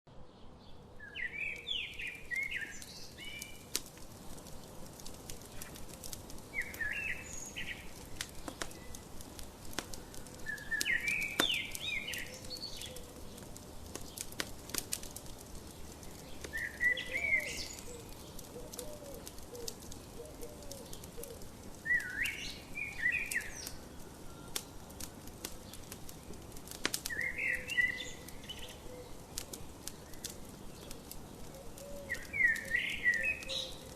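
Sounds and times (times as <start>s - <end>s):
songbird chirping: 0.1s - 33.9s
wood fire crackling: 0.8s - 33.9s.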